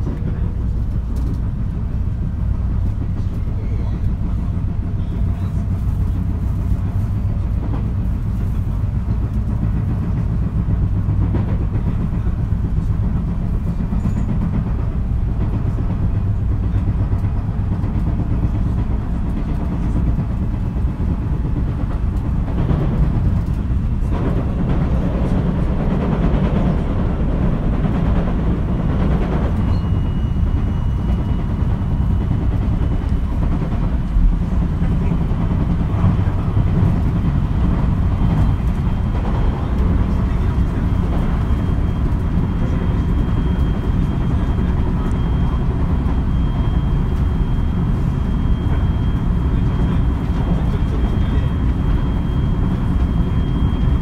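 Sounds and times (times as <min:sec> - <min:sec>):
train wheel-on-rail rumble: 0:00.0 - 0:54.0.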